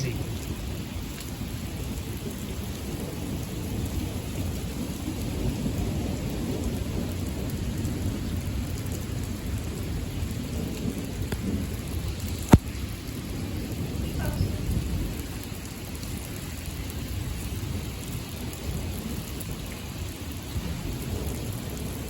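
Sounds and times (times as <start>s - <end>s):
heavy rain: 0.0s - 22.0s
thunder rumbling: 0.0s - 22.0s.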